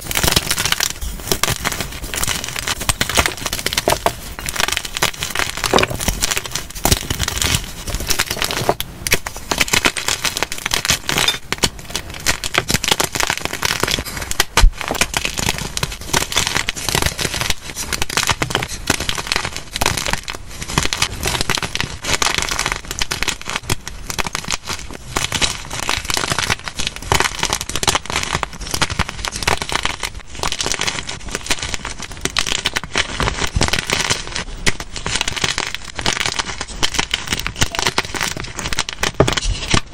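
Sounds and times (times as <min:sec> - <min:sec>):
chalk crunching and crackling: 0:00.0 - 0:39.9
paper wrapping crinkling: 0:00.0 - 0:39.9
sharp crack: 0:00.0 - 0:39.9.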